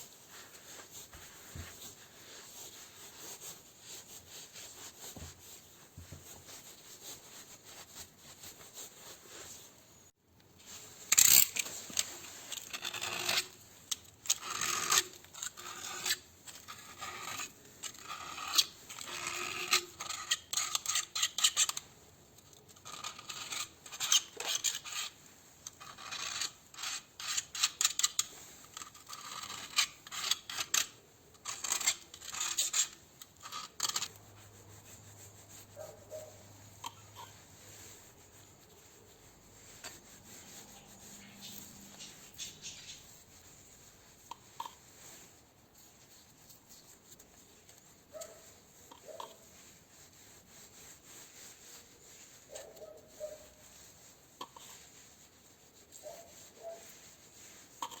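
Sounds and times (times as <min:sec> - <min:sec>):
scraping and rubbing of parts: 0:10.6 - 0:58.0.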